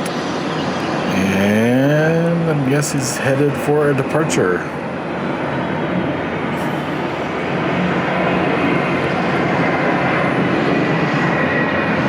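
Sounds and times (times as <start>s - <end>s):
faint high engine whine: 0.0s - 12.0s
jet engines running: 0.0s - 12.0s.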